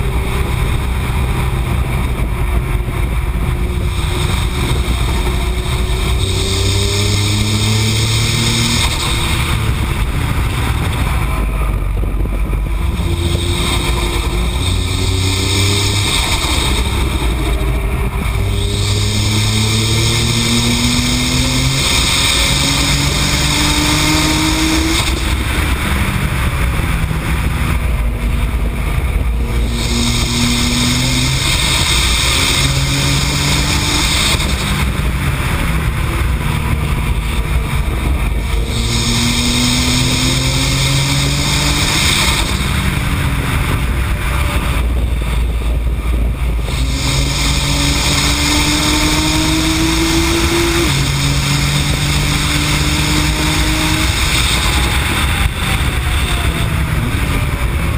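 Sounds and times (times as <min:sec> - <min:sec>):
car engine accelerating hard: 0:00.0 - 0:57.9
wind and road noise: 0:00.0 - 0:57.9.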